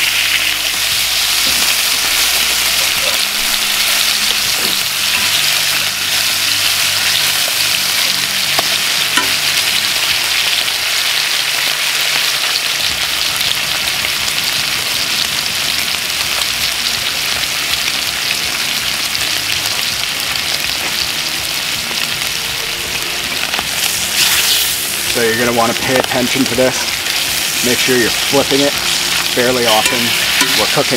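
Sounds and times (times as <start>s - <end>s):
bacon sizzling in skillet: 0.0s - 30.9s.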